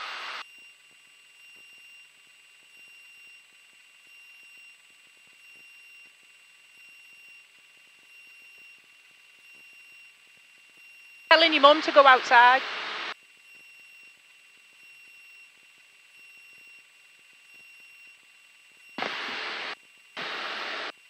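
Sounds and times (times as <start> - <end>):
steady high electronic whine: 0.0 - 21.0.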